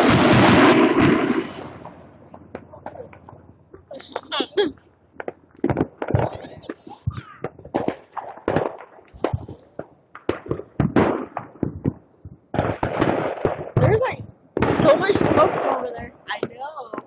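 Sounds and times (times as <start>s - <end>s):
fireworks bangs and pops: 0.0s - 17.0s
fireworks crackling fizz: 0.0s - 17.0s.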